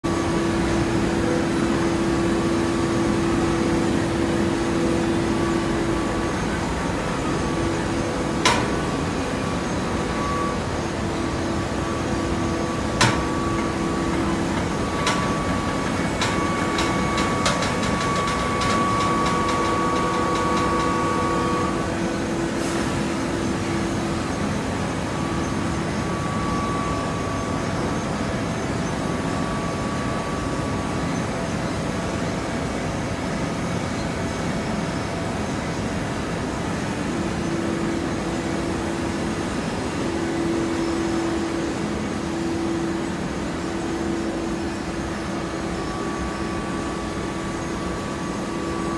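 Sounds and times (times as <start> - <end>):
baler machine drone: 0.0 - 48.9.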